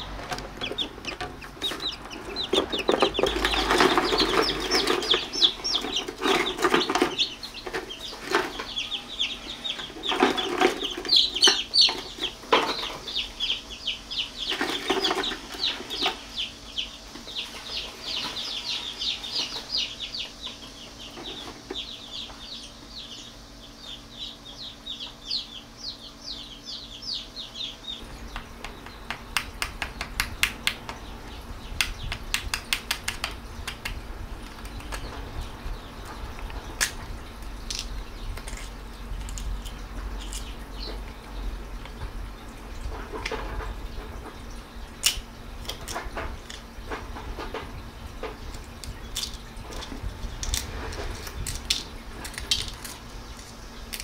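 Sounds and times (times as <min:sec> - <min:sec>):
chick peeping: 0:00.0 - 0:54.0.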